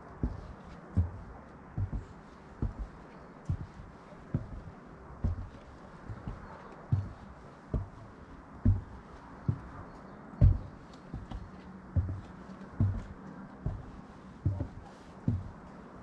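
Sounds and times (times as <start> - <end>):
footsteps walking: 0.0 - 16.0.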